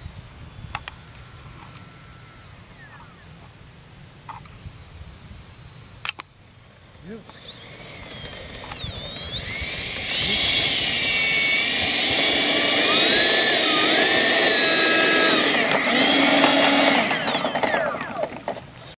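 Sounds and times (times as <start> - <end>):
electric ducted fan whining: 0.0 - 18.9.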